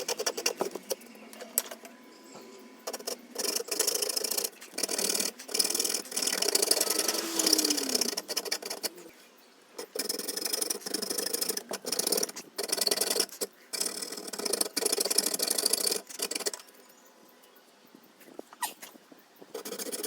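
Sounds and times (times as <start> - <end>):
hand tool scraping wood: 0.0 - 16.6.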